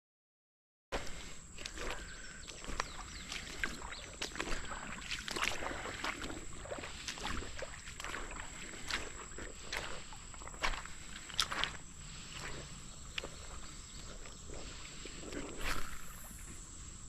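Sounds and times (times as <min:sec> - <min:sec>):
footsteps splashing in water: 0:00.9 - 0:16.6.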